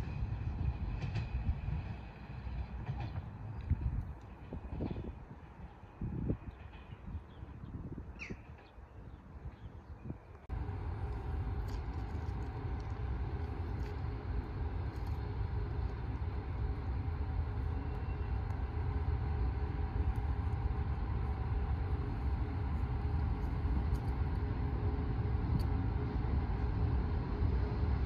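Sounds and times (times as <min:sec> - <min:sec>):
train running drone: 0:00.0 - 0:28.0.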